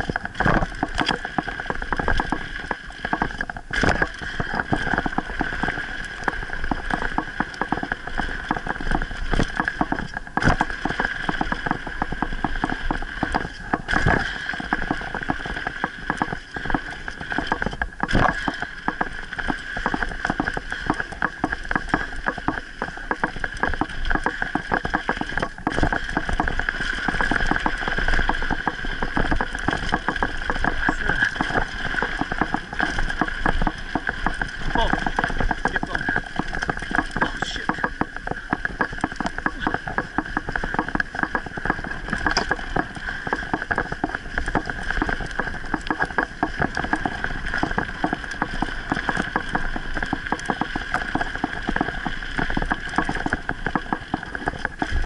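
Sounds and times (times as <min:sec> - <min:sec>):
bike rattling over bumpy ground: 0:00.0 - 0:55.0.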